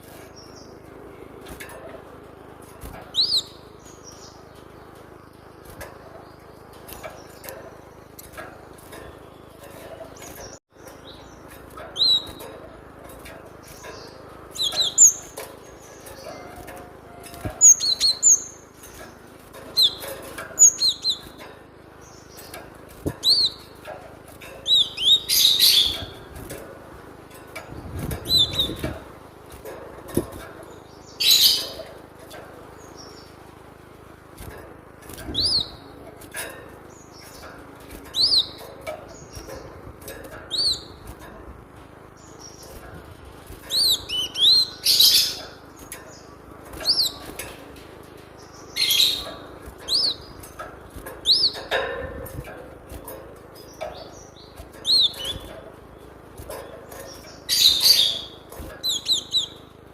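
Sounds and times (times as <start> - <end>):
bird chirping: 2.6 - 26.7, 27.6 - 33.6, 34.4 - 41.3, 42.1 - 59.9
harsh bird calls: 2.7 - 23.9, 24.6 - 26.6, 30.1 - 34.4, 35.1 - 41.2, 42.0 - 59.9.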